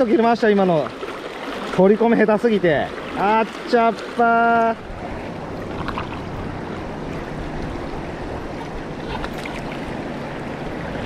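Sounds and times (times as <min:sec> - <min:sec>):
water rushing over stones: 0:00.0 - 0:11.0.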